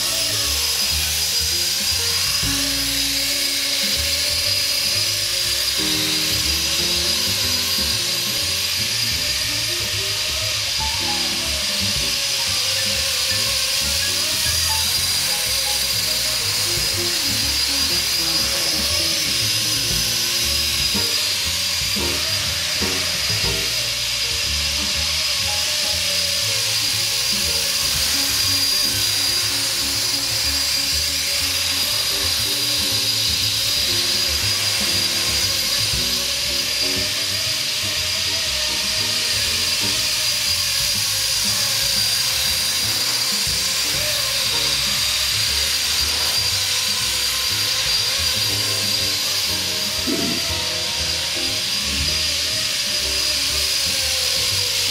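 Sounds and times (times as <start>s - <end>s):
model helicopter whine: 0.0s - 54.9s
music: 0.0s - 54.9s.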